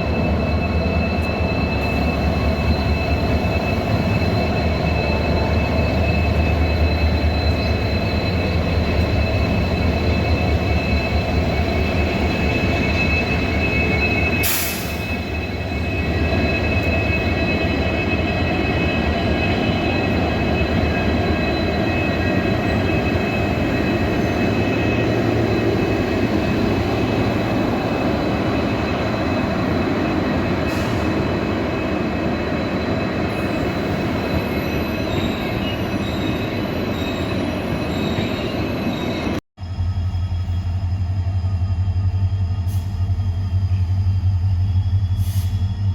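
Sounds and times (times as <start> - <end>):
high wheel squeal: 0.0 - 45.9
train rumbling: 0.0 - 45.9.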